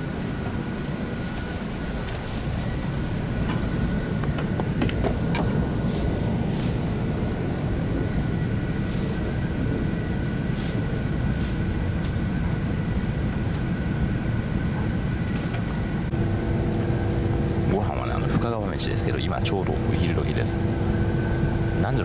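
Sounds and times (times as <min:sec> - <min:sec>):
train running gear rumble: 0:00.0 - 0:22.0.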